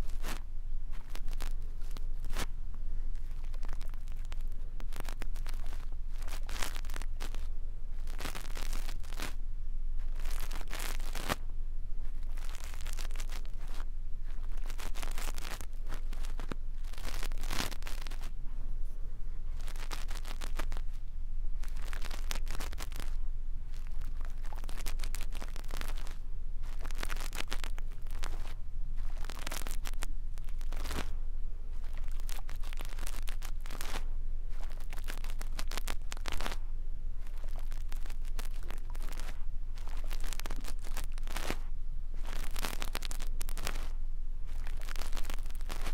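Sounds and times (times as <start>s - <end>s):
brush scratching on microphone: 0.0s - 9.4s, 10.0s - 11.4s, 12.0s - 45.9s
steady low hum: 0.0s - 45.9s.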